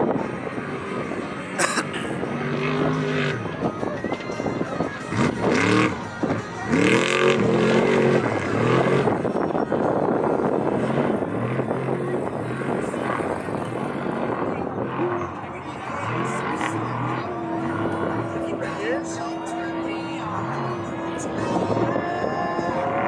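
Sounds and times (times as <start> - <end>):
race vehicle engine revving: 0.0 - 23.0.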